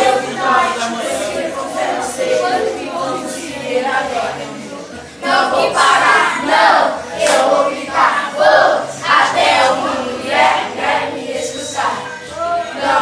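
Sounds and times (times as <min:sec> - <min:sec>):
group singing loud short phrases: 0:00.0 - 0:13.0.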